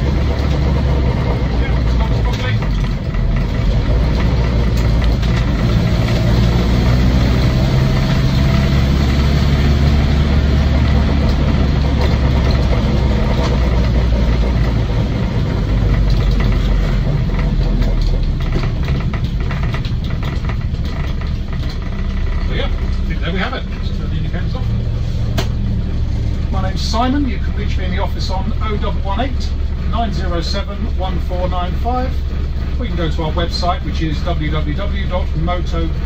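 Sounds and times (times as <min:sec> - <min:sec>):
car engine drone from inside cab: 0:00.0 - 0:36.0.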